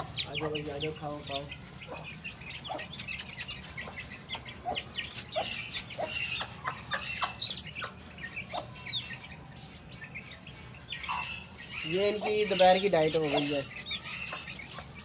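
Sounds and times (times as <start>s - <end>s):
chicks peeping: 0.0s - 15.0s
hen clucking: 0.0s - 15.0s.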